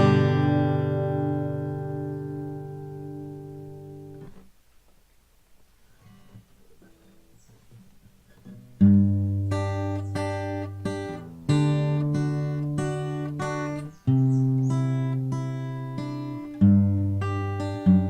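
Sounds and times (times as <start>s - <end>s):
acoustic guitar notes and chords: 0.0s - 4.6s, 5.9s - 18.0s.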